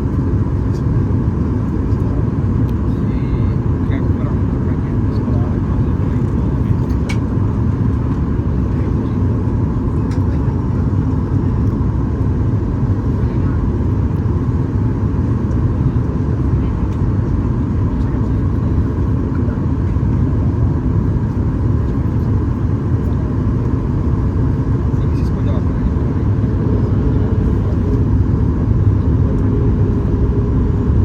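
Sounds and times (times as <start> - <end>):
jet engine hum: 0.0 - 31.0.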